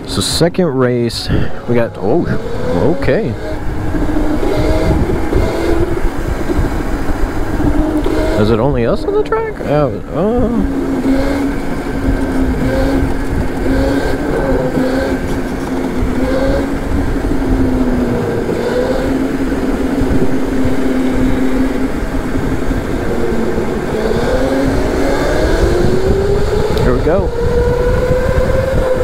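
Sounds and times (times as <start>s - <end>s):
road and wind noise: 0.0s - 29.0s
go-kart motor: 1.3s - 29.0s.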